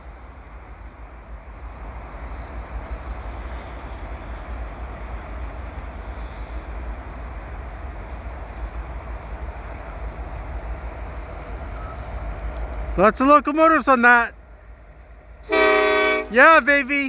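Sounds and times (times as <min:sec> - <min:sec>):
diesel locomotives rumbling: 0:00.0 - 0:17.0.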